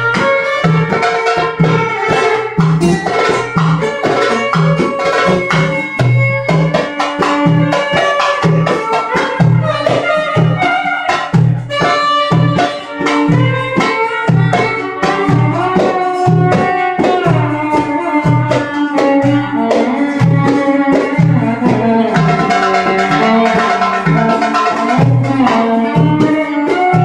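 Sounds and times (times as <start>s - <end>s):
goblet drum rhythm: 0.0s - 27.0s
string instrument gliding melody: 0.0s - 27.0s.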